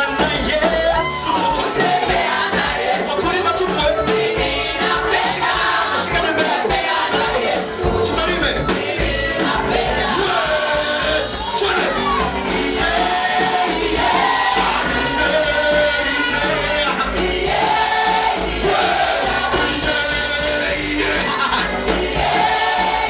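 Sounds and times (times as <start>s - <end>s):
band accompaniment: 0.0s - 23.0s
group of voices singing: 0.0s - 23.0s.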